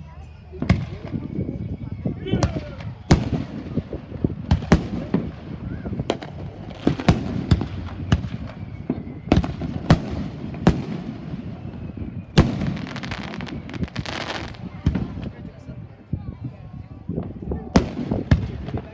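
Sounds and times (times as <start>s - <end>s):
low rumble of fireworks: 0.0s - 18.9s
fireworks bangs: 0.5s - 15.7s, 17.1s - 18.9s.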